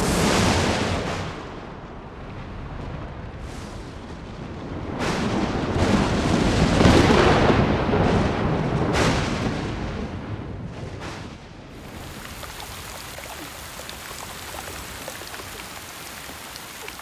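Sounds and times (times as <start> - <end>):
thunder cracking and rumbling: 0.0 - 17.0.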